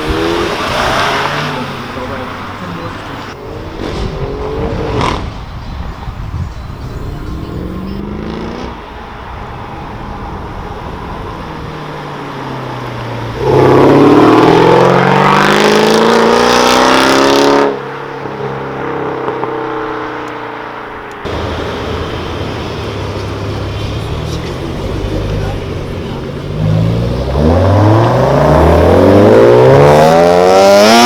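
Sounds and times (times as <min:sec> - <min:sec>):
supercar engine revving: 0:00.0 - 0:20.5, 0:21.1 - 0:31.0.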